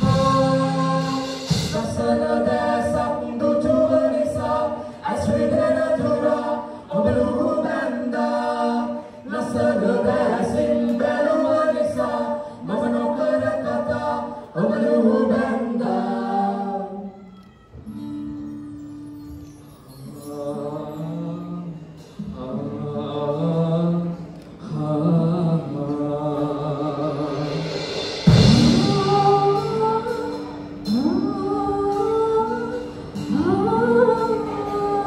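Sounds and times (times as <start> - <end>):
group singing a cappella: 0.0 - 17.2, 20.0 - 35.0.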